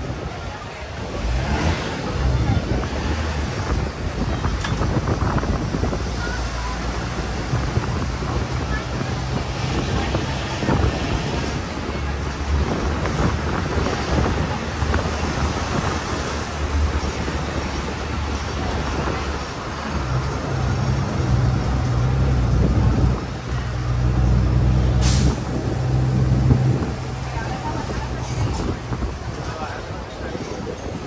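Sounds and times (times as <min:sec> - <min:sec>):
bus engine hum: 0:00.0 - 0:31.0
road and wind noise: 0:00.0 - 0:31.0.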